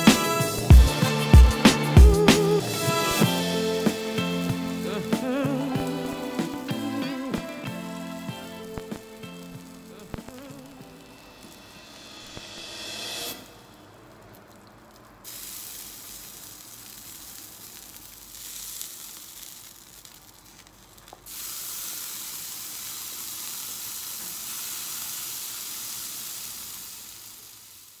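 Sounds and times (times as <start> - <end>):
fat sizzling in a frying pan: 0.0 - 28.0.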